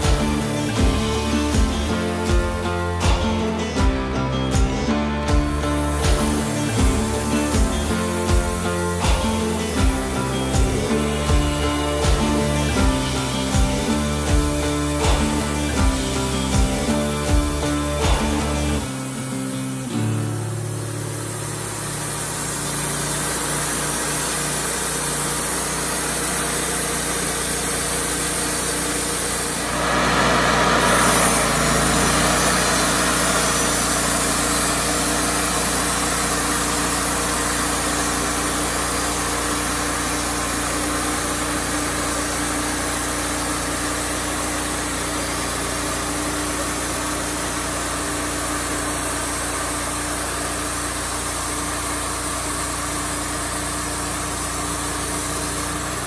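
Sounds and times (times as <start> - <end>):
band saw cutting log: 0.0 - 56.0
gasoline engine running: 0.0 - 56.0.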